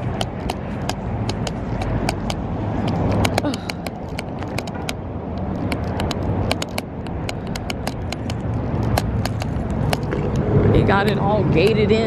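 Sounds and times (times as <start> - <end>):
sharp ticks: 0.0 - 11.8
road traffic rumble: 0.0 - 12.0.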